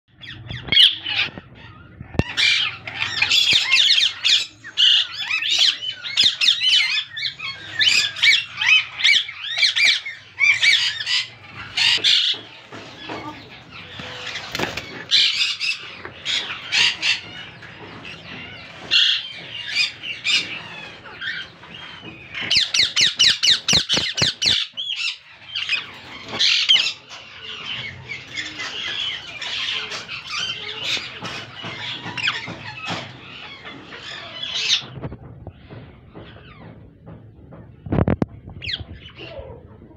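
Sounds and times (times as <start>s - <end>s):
parakeets squawking: 0.1s - 36.8s, 38.5s - 39.7s.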